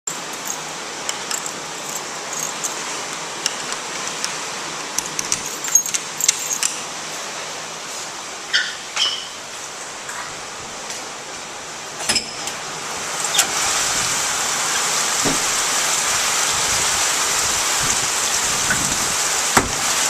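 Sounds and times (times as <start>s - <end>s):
rain hissing: 0.1s - 8.5s, 9.4s - 20.0s.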